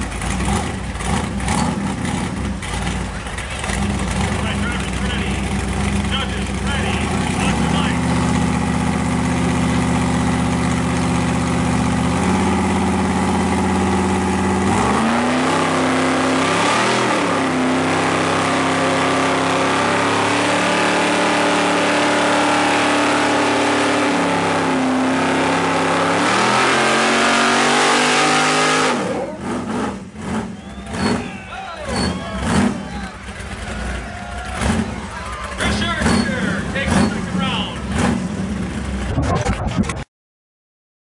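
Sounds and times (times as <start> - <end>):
truck engines revving under load: 0.0 - 40.0.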